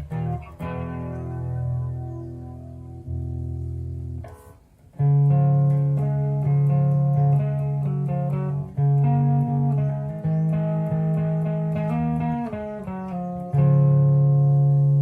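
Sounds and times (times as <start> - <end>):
electric bass notes: 0.0 - 15.0.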